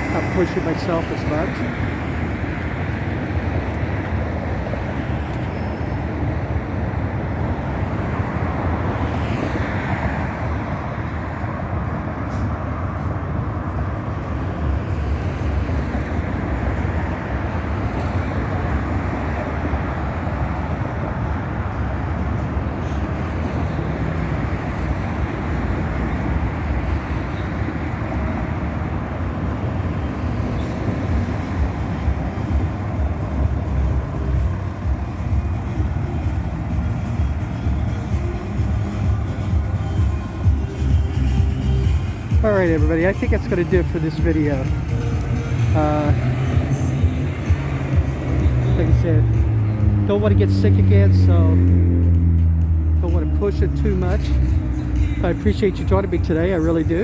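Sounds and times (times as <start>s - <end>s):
street traffic rumble: 0.0s - 57.0s.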